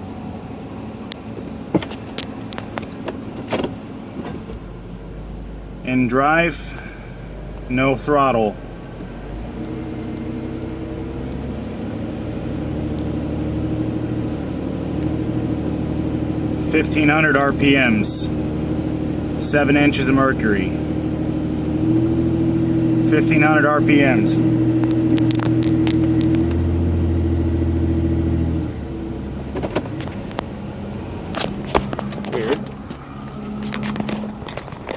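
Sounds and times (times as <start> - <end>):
car engine revving slowly: 0.0 - 34.9.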